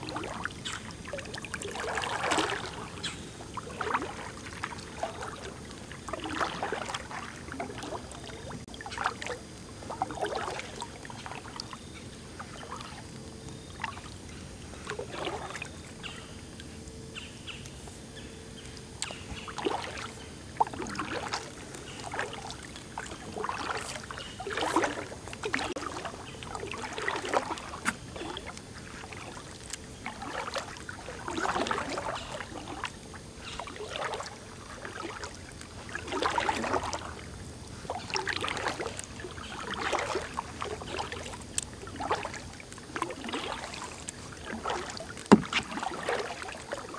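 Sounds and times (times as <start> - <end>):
paddle splashing in water: 0.0 - 13.0, 13.7 - 16.3, 19.0 - 46.9.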